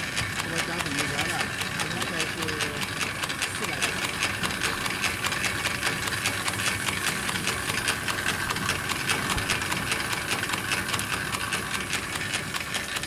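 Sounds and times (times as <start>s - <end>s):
machinery humming: 0.0s - 13.0s
rapid irregular clicking: 0.0s - 13.0s.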